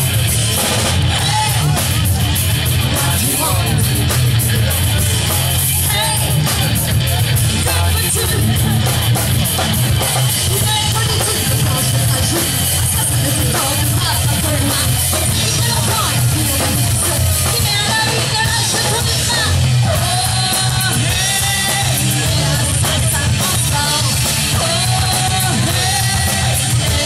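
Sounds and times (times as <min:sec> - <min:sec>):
bass guitar: 0:00.0 - 0:27.0
drum kit: 0:00.0 - 0:27.0
electric guitars: 0:00.0 - 0:27.0
person singing: 0:01.0 - 0:27.0.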